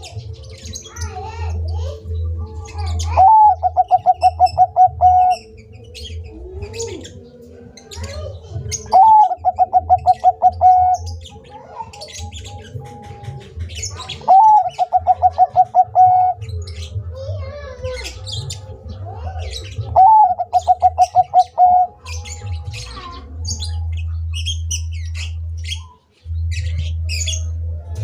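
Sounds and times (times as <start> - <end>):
dove cooing song: 0.0 - 28.0.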